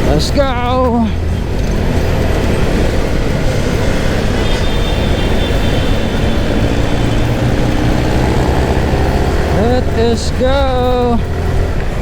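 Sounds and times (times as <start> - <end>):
motorcycle engine: 0.0 - 12.0
road traffic: 0.0 - 12.0
wind buffeting helmet microphone: 0.0 - 12.0.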